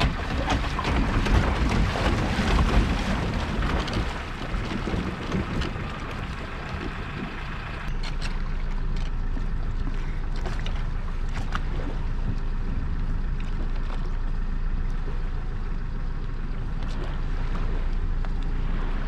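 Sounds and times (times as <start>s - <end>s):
boat engine running: 0.0s - 19.0s
water and wind noise: 0.0s - 19.0s.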